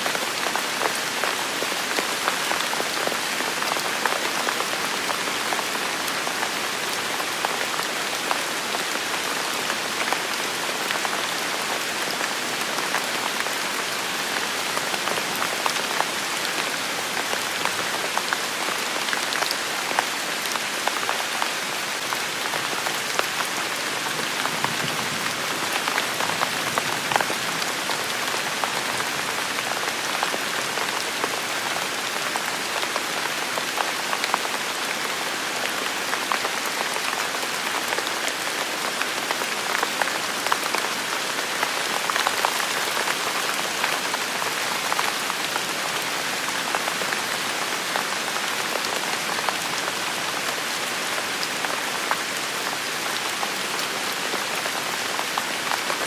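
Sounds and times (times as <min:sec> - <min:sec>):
rain on a hard surface: 0:00.0 - 0:56.0.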